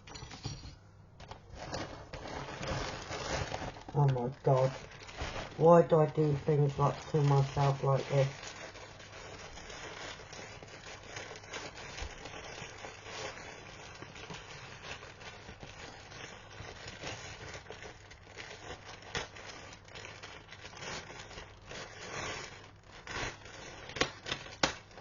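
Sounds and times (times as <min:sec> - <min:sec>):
packaging crinkling: 0:01.2 - 0:25.0.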